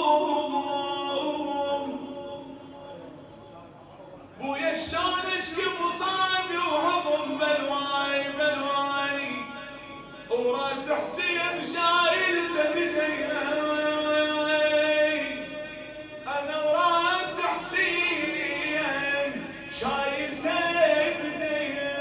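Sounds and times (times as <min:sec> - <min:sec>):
man chanting a lament: 0:00.0 - 0:22.0.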